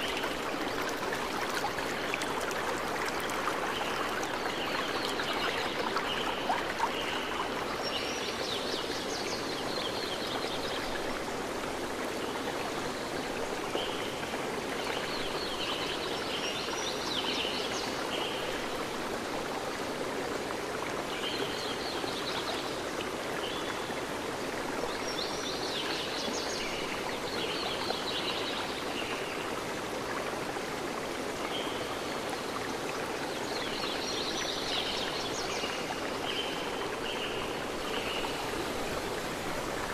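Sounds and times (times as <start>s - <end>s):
running stream: 0.0s - 39.9s.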